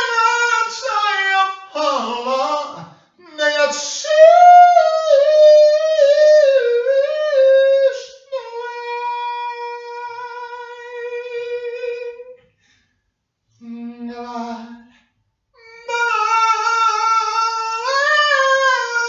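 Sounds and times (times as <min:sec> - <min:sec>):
high voice singing wordless tune: 0:00.0 - 0:12.4, 0:13.6 - 0:15.0, 0:15.6 - 0:19.0.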